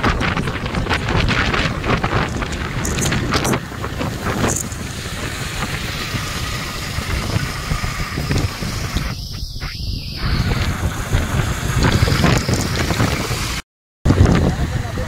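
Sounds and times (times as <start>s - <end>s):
motorcycle engine rumble: 0.0s - 15.0s
road noise: 0.0s - 15.0s
wind buffeting microphone: 0.0s - 15.0s.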